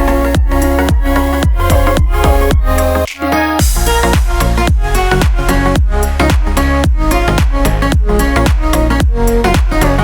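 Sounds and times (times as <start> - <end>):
house dance music: 0.0 - 10.0.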